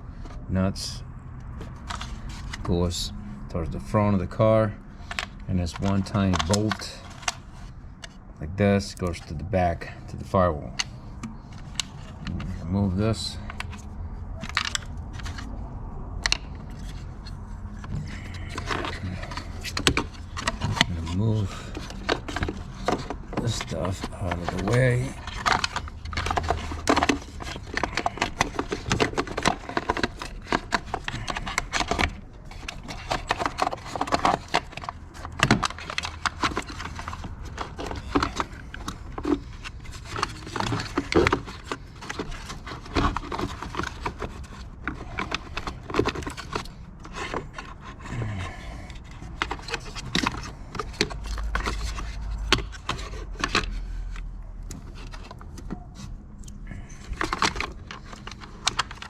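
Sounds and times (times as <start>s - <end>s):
parts and wiring being handled: 0.0s - 59.0s.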